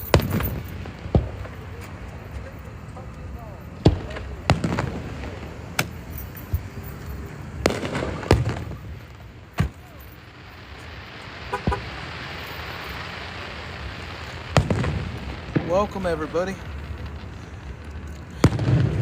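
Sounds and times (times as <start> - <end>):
fireworks banging: 0.0 - 19.0
fireworks hissing: 0.0 - 19.0.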